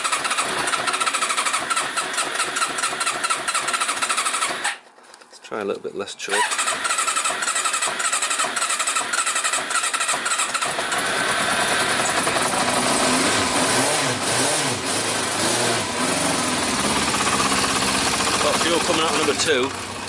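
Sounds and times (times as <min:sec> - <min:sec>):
motorcycle engine revving and idling: 0:00.0 - 0:04.7, 0:06.4 - 0:20.0
electric starter cranking: 0:00.0 - 0:04.8, 0:06.4 - 0:20.0.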